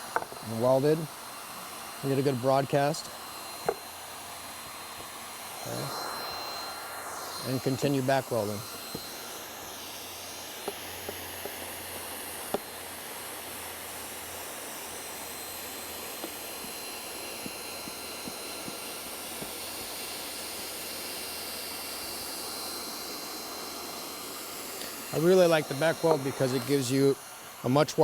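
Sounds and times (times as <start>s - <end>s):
hot-air welder hissing: 0.0s - 28.0s.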